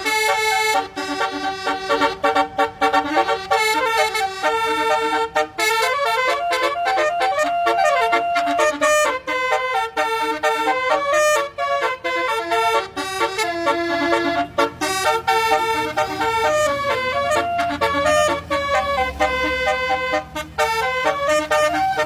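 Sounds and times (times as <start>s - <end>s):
bus musical horn playing a tune: 0.0s - 22.0s.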